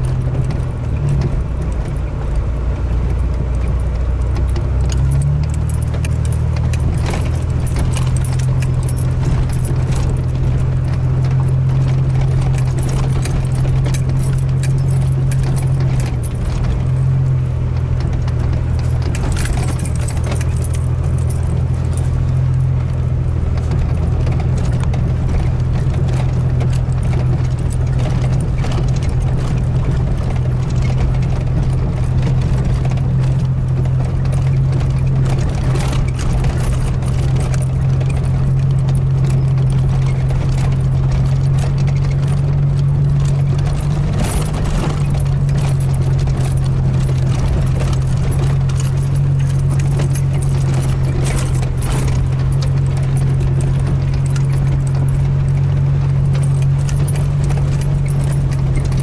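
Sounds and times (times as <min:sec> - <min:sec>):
car engine hum: 0:00.0 - 0:59.0
light rattles and jangles: 0:00.0 - 0:59.0.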